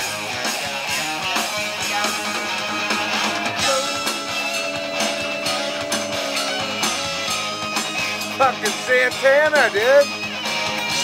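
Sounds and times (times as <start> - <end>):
distorted electric guitar lead: 0.0 - 10.2.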